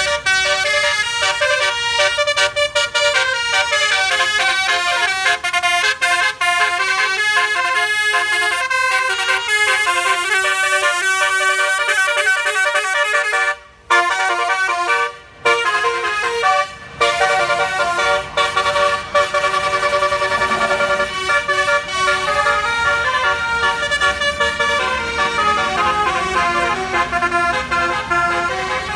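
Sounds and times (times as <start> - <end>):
bus multi-tone air horn jingle: 0.0 - 28.9.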